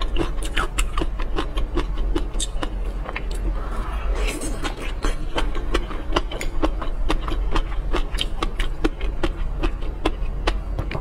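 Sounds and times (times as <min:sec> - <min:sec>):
chewing with wet mouth clicks: 0:00.0 - 0:03.5, 0:04.2 - 0:11.0.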